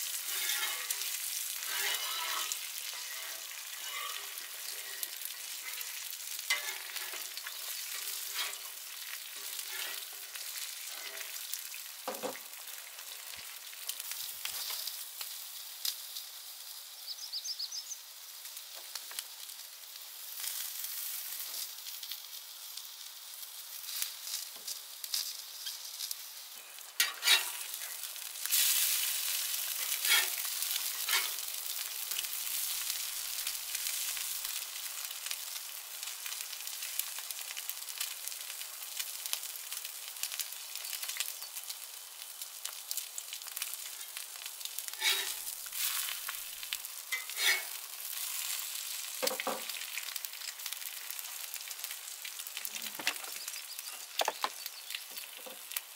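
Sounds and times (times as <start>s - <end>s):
food sizzling on a griddle: 0.0s - 55.9s.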